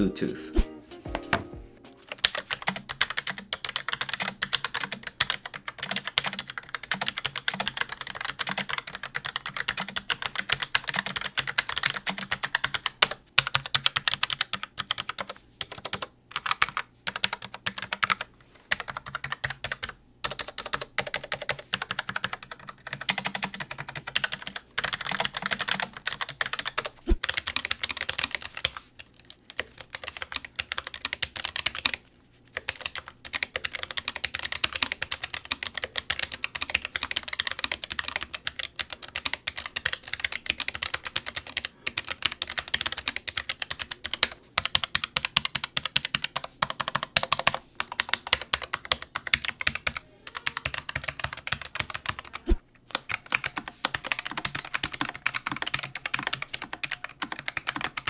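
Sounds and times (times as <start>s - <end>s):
fast typing on mechanical keyboard: 2.0s - 32.0s, 32.6s - 58.0s.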